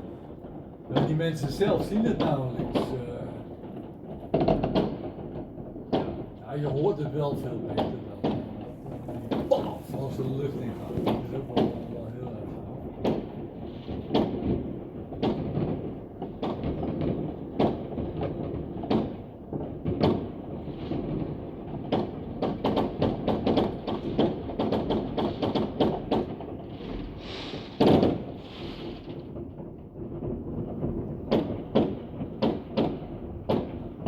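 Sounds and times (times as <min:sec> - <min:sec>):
fireworks bangs and cracks: 0:00.0 - 0:34.0
loud fireworks blast: 0:00.0 - 0:34.0.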